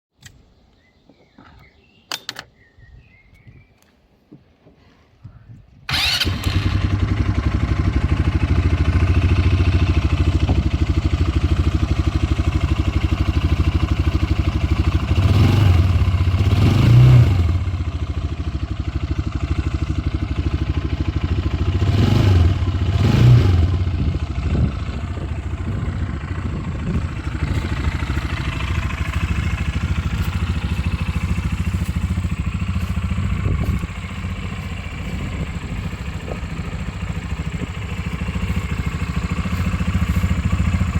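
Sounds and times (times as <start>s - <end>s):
engine revving and idling: 5.9s - 40.9s.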